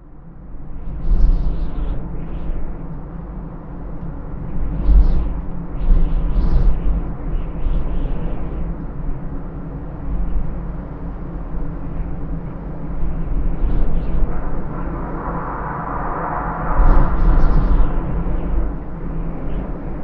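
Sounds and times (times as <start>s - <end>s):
gusting wind: 0.0s - 20.0s.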